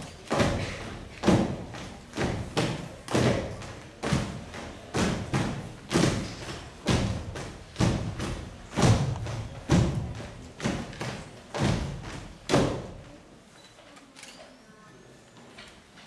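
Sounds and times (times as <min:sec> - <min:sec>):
feet stamping on stage floor: 0:00.0 - 0:13.2.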